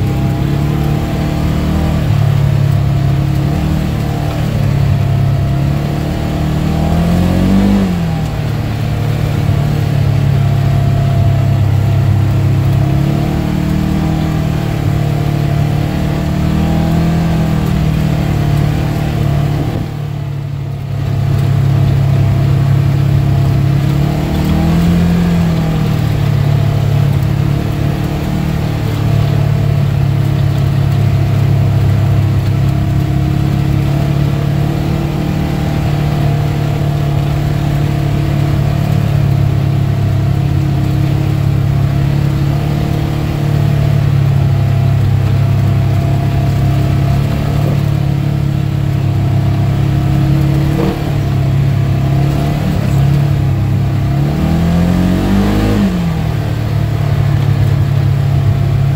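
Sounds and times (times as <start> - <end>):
off-road vehicle engine running: 0.0 - 58.9.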